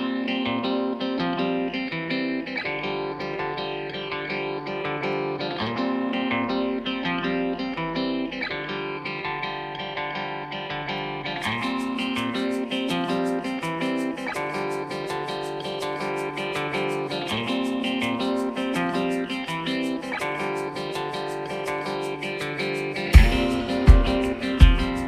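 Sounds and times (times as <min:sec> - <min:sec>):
guitar background music: 0:00.0 - 0:25.0.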